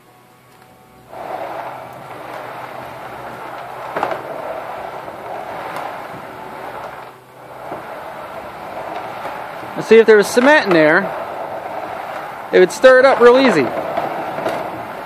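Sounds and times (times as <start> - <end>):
cement mixer drum rumbling: 0.6 - 15.0.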